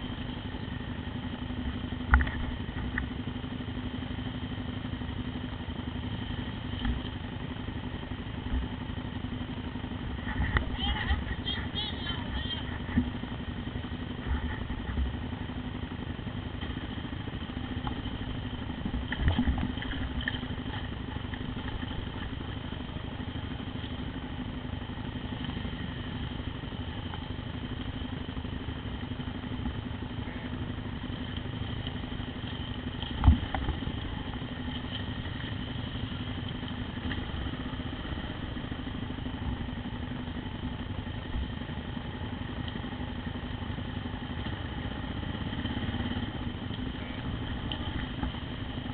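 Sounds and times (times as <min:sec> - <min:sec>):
motorcycle engines running: 0:00.0 - 0:48.9.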